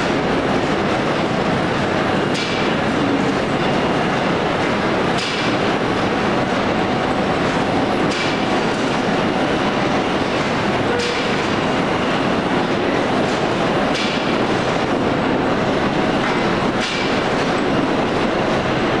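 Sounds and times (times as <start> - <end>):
machinery rattling clatter: 0.0 - 19.0.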